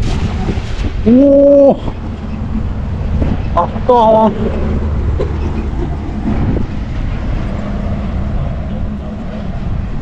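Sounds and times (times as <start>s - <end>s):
faint engine hum: 0.0s - 10.0s
traffic rumble on bridge: 0.0s - 10.0s.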